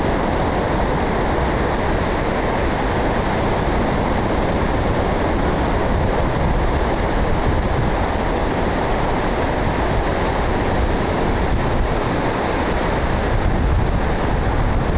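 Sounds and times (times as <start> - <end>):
ocean surf: 0.0 - 14.9
wind noise on microphone: 0.0 - 14.9.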